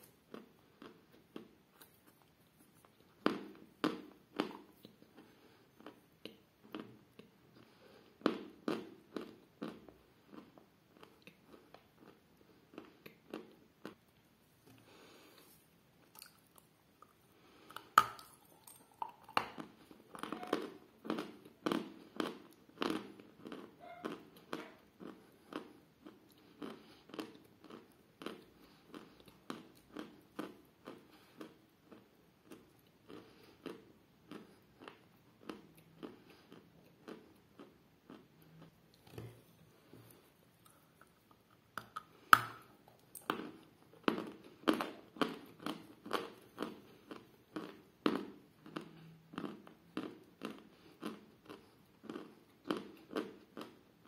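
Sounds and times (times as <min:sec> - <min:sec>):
person chewing crunchy chalk: 0:00.0 - 0:54.0.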